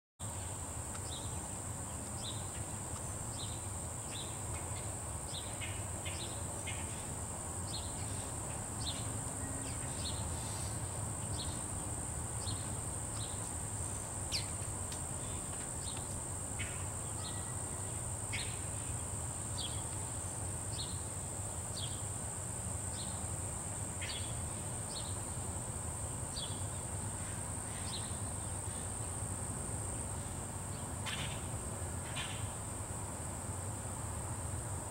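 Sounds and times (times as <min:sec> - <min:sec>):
insect chirps: 0:00.2 - 0:34.9
insects droning: 0:00.2 - 0:34.9.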